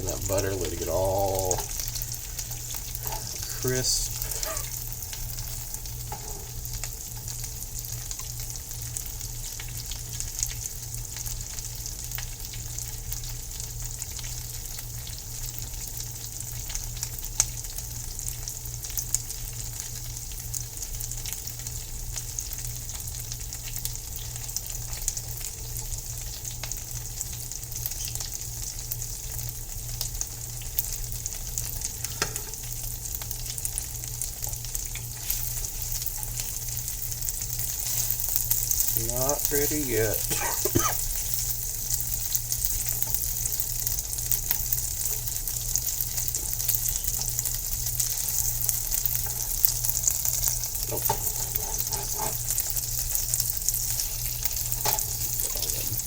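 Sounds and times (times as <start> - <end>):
butter sizzling in a frying pan: 0.0 - 56.0.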